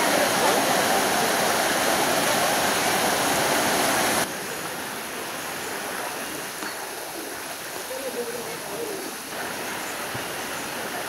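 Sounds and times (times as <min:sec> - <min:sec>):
floodwater rushing over road: 0:00.0 - 0:11.0.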